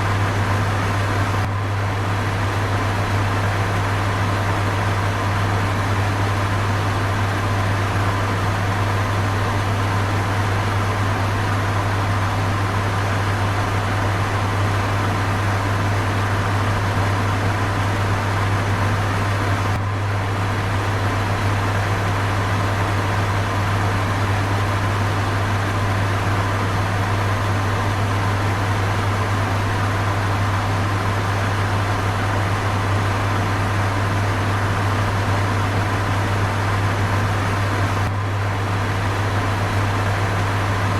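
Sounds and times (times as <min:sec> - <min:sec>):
low fan motor hum: 0:00.0 - 0:40.9.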